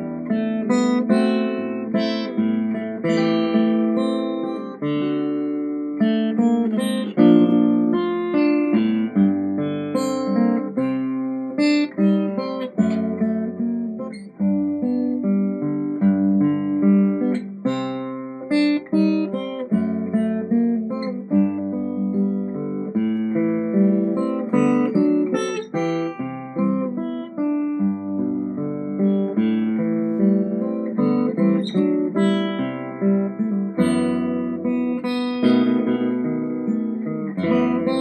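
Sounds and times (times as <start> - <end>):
acoustic guitar plucked notes: 0.0 - 38.0.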